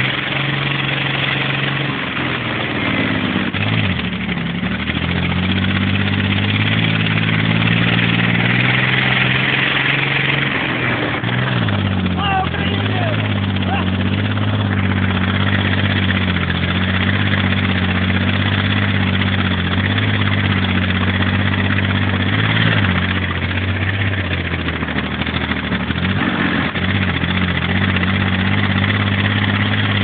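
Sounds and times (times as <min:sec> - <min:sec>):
armoured vehicle engine running: 0:00.0 - 0:30.0.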